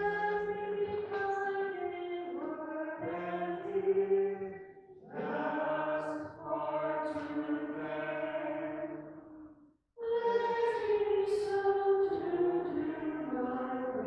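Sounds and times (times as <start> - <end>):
hymn singing in church: 0.0 - 14.0.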